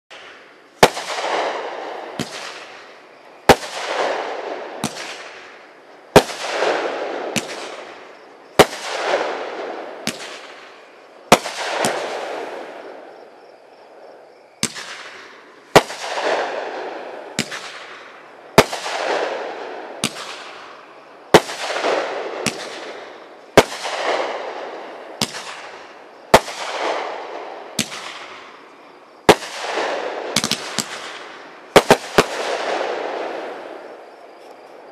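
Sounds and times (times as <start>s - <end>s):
fireworks firing loud reports: 0.1s - 13.4s, 14.6s - 34.0s.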